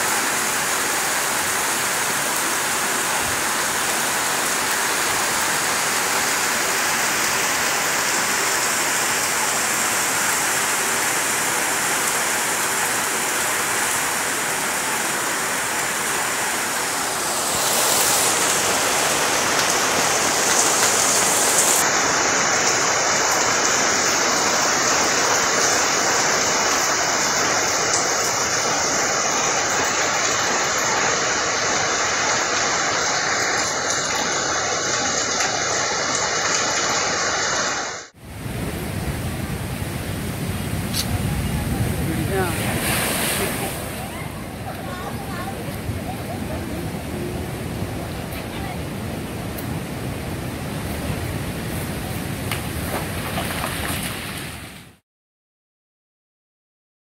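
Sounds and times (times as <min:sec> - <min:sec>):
heavy rain on leaves: 0:00.0 - 0:55.0.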